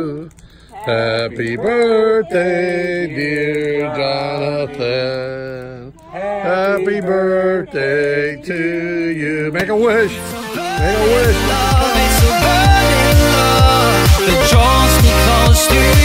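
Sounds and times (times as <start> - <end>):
person singing long notes: 0.0 - 16.0.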